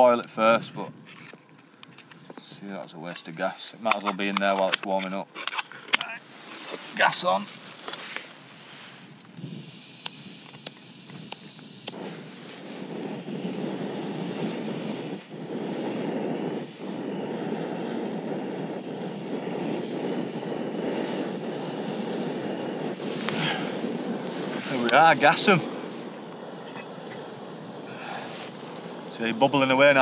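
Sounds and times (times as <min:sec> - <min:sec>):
gas burner hissing: 0:00.0 - 0:30.0.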